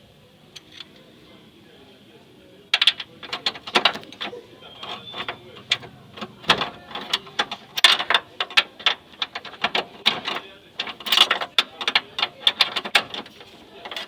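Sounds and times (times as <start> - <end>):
hand tools clicking on metal: 2.7 - 14.0.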